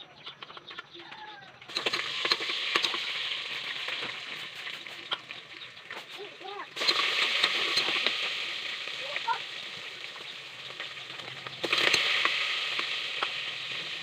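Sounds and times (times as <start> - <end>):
food sizzling in a pot: 1.7 - 14.0.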